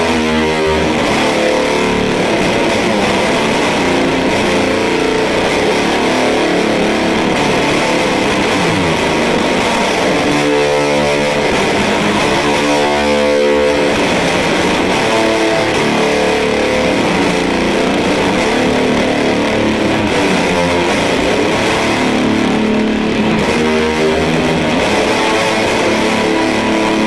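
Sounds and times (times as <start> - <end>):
fuzzy electric guitar chords: 0.0 - 27.0.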